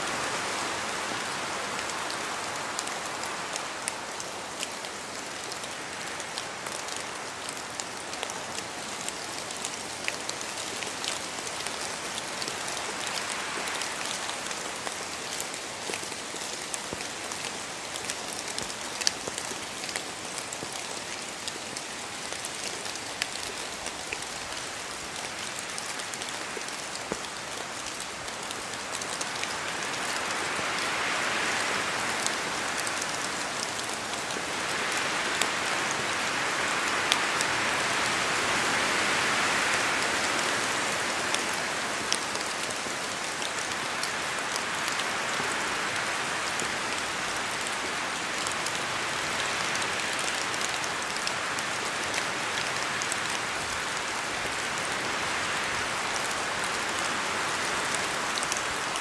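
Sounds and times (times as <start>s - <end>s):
rain falling on trees: 0.0s - 59.0s.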